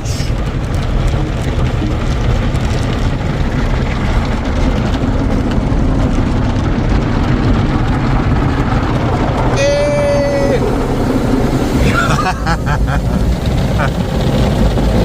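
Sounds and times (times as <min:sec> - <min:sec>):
car wash water spray and machinery: 0:00.0 - 0:15.0.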